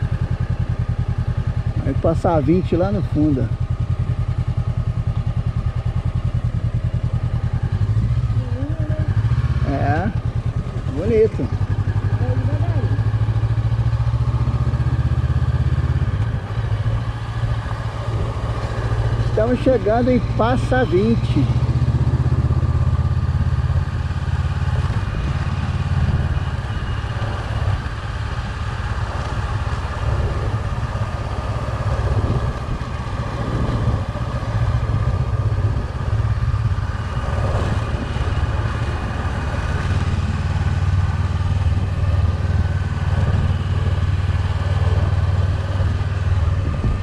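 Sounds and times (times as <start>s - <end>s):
motorcycle engine running: 0.0s - 47.0s
wind rumble: 3.5s - 47.0s.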